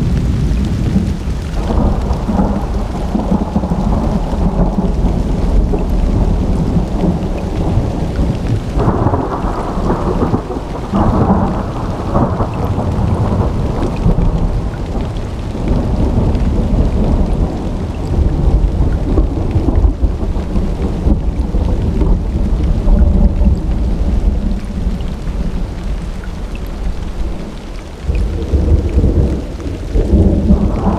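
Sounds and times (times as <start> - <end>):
low rolling thunder: 0.0 - 30.9
steady rain: 0.0 - 30.9.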